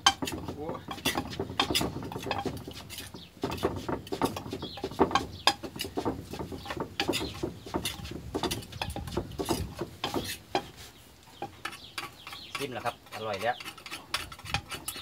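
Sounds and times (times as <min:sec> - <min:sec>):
pestle pounding in clay mortar: 0:00.0 - 0:10.8, 0:11.4 - 0:15.0
metal spoon stirring in mortar: 0:00.0 - 0:15.0.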